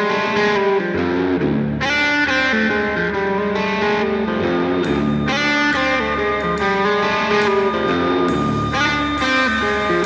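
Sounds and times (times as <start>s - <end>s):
electric guitar music with effects: 0.0s - 10.0s.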